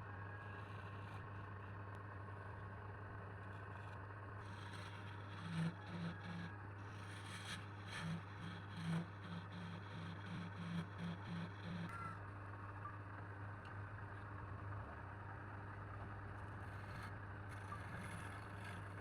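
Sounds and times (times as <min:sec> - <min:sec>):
low electric hum: 0:00.0 - 0:19.0.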